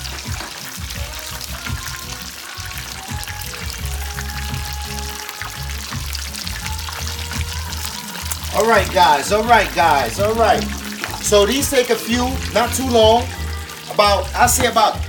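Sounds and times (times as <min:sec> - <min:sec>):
music playing: 0:00.0 - 0:15.0
oil sizzling while deep-frying: 0:00.0 - 0:15.0.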